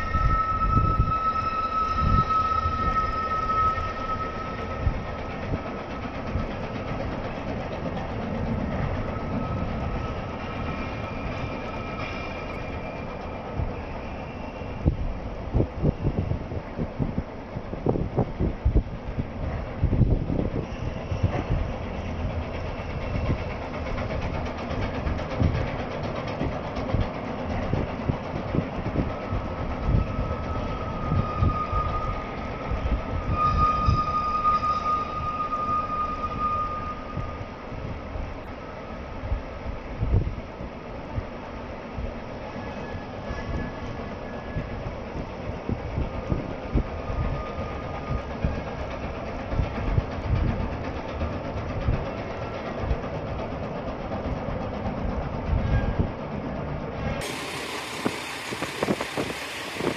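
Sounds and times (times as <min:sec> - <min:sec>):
diesel railcar engine rumble: 0:00.0 - 0:59.9.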